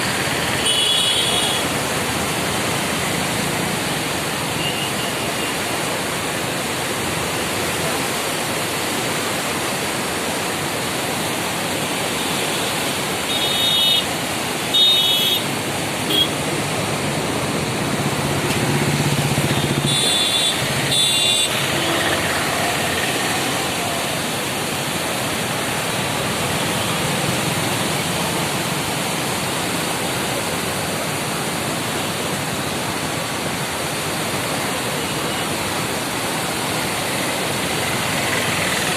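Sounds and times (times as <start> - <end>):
fast-flowing river rushing: 0.0 - 38.9.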